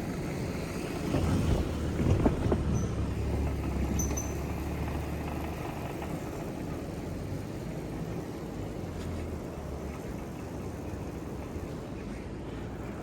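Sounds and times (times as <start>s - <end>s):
vehicle rumbling: 0.0s - 13.0s.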